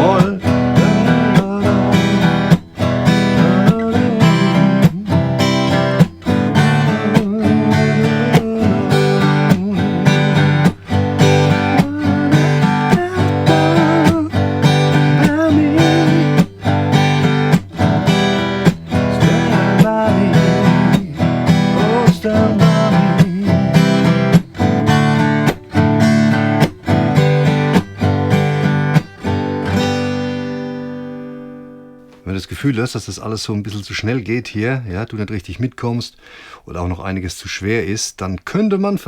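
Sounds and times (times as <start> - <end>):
acoustic guitar strumming: 0.0 - 32.3.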